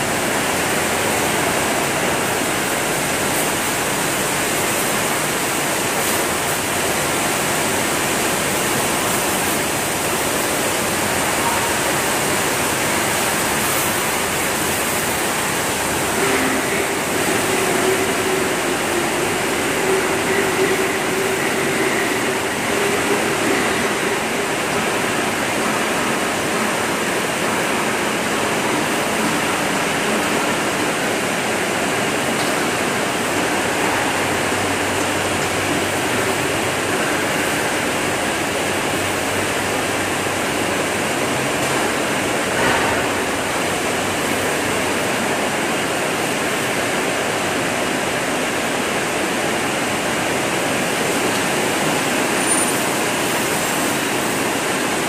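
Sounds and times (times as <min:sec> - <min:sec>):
water spraying in washing machine: 0:00.0 - 0:55.0.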